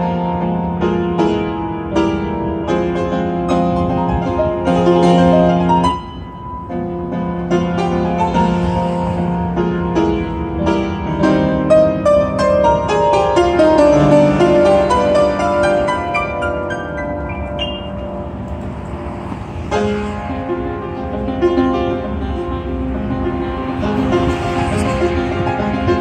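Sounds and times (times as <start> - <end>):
upright piano: 0.0 - 26.0.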